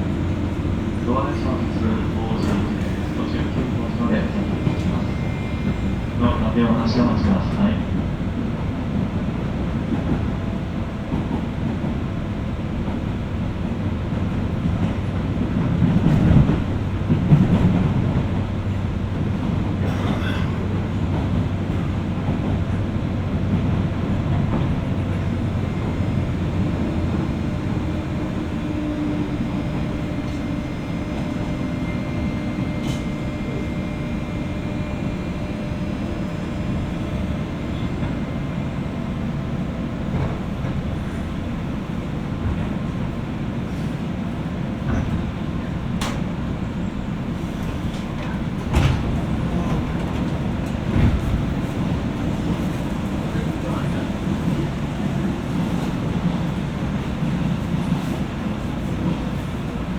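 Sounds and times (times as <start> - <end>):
train rolling rumble: 0.0 - 59.9.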